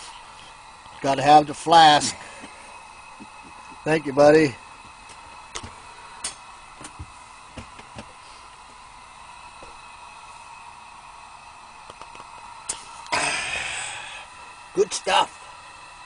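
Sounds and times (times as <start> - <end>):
lantern hissing: 0.0 - 16.0.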